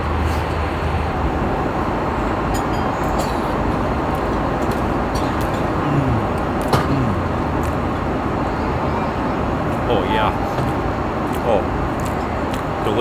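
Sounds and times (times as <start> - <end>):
airliner cabin roar: 0.0 - 13.0.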